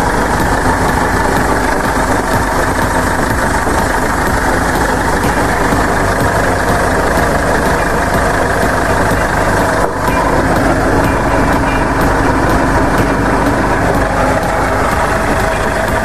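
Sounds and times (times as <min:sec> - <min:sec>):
faint regular ticking: 0:00.0 - 0:16.0
truck engine and driveline running: 0:00.0 - 0:16.0.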